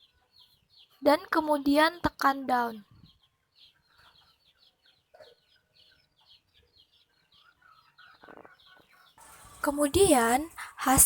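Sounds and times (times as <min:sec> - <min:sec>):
faint rapid bird chirping: 0:00.0 - 0:11.0.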